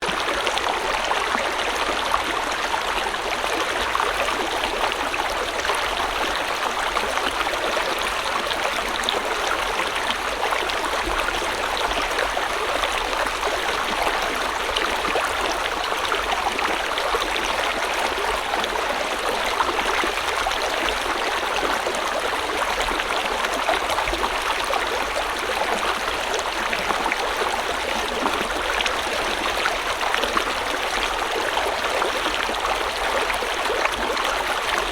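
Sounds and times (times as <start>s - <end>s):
stream flowing over rocks: 0.0s - 34.9s.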